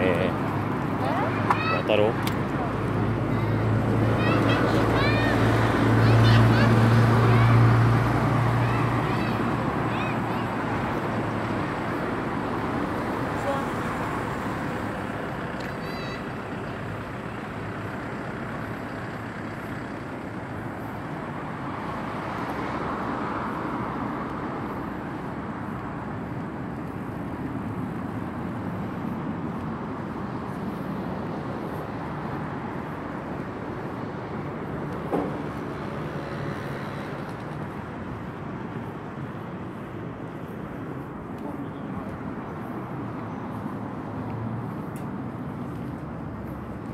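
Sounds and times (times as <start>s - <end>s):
city road traffic: 0.0s - 46.9s
vehicle passing: 0.0s - 46.9s.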